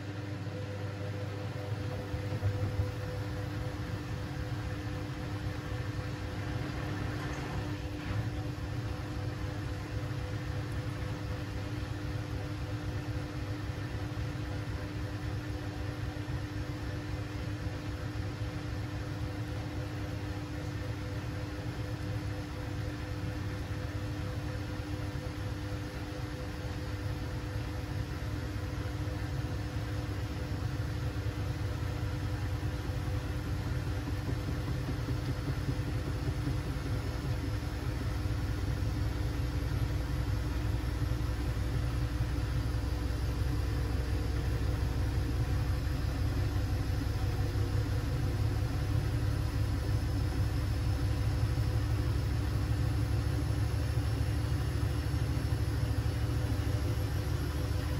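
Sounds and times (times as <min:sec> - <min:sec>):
washing machine rumbling: 0:00.0 - 0:57.9.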